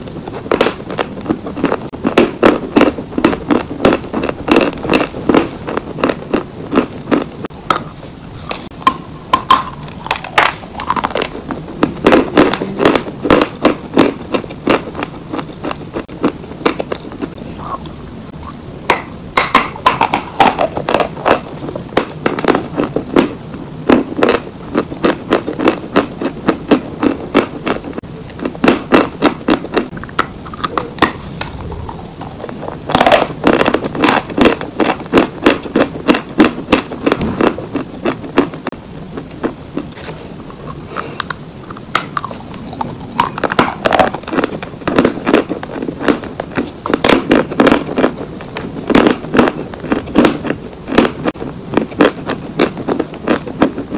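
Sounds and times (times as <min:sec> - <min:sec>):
chewing and crunching: 0:00.0 - 0:53.9.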